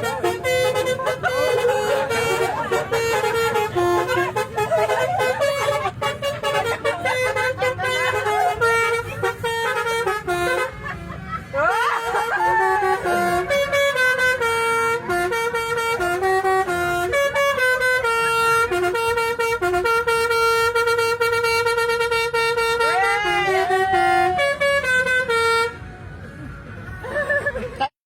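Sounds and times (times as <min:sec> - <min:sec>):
musical bus air horn: 0:00.0 - 0:27.8.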